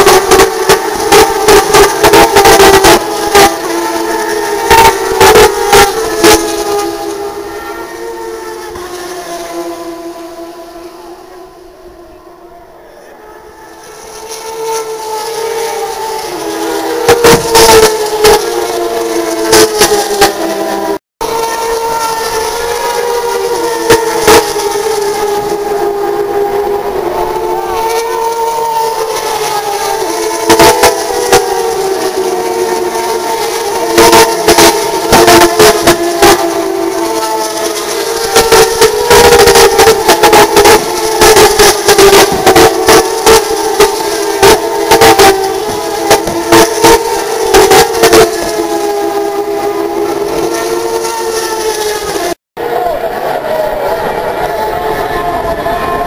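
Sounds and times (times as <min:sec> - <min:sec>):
race car engine passing: 0:00.0 - 0:56.0.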